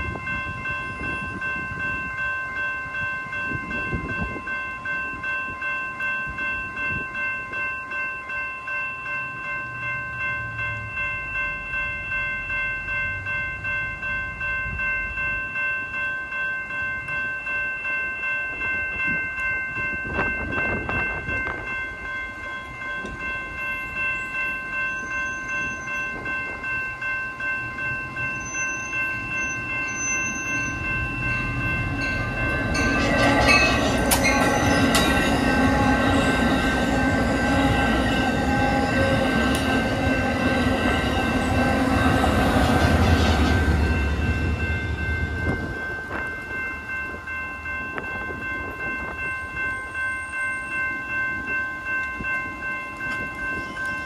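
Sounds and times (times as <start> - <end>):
crossing warning bell ringing: 0.0 - 54.0
train rumble and wheel clatter: 0.0 - 54.0.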